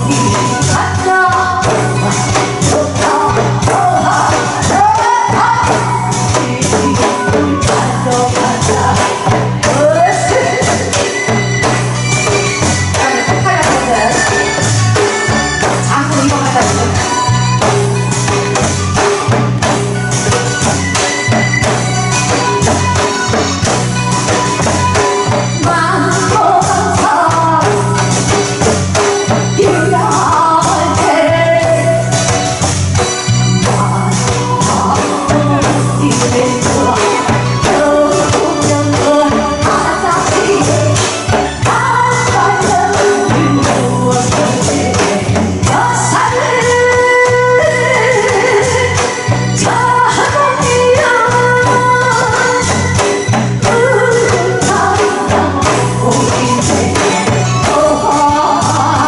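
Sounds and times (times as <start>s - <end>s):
hand percussion: 0.0s - 59.0s
hourglass drum beats: 0.0s - 59.0s
loud music with singing: 0.0s - 59.0s.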